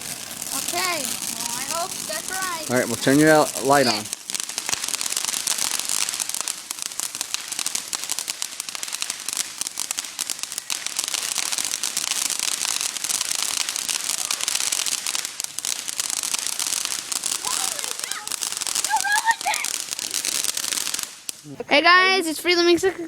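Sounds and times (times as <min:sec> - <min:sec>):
firework crackling: 0:00.0 - 0:23.0.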